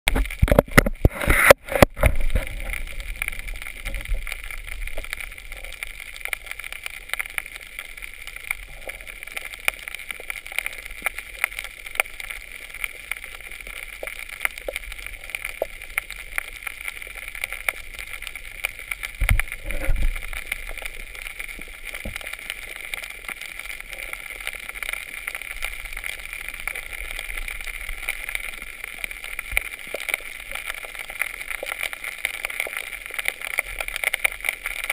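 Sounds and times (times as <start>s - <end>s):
underwater hiss and crackle: 0.1s - 34.9s.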